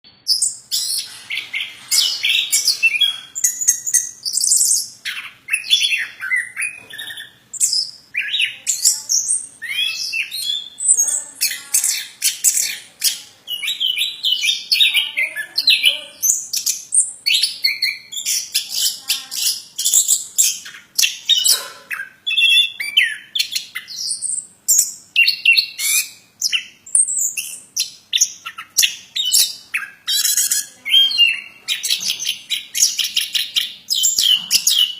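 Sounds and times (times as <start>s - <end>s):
songbird chirping and trilling: 0.1s - 34.9s.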